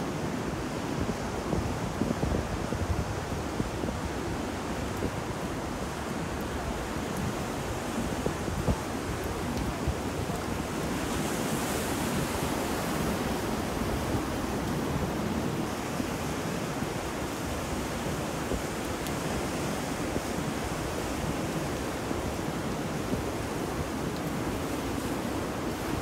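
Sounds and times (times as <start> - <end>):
ocean surf: 0.0 - 26.0
rain: 0.0 - 26.0
wind: 0.0 - 26.0.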